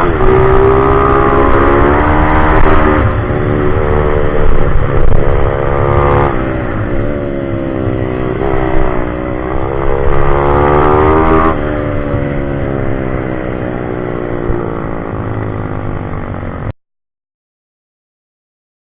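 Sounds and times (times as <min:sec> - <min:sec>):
pit bike engine revving: 0:00.0 - 0:16.5.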